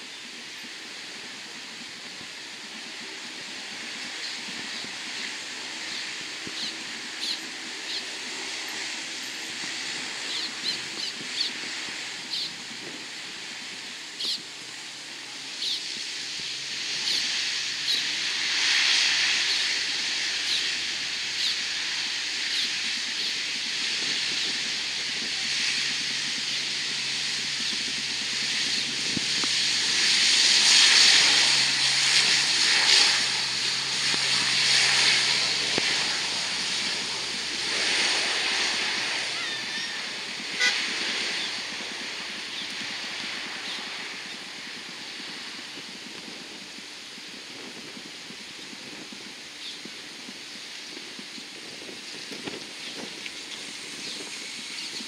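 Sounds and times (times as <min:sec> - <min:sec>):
turboprop engines whining: 0:00.0 - 0:55.0.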